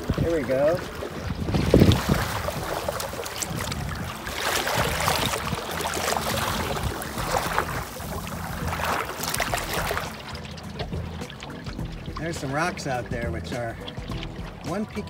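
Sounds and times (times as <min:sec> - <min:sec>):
water splashing along boat hull: 0:00.0 - 0:15.0.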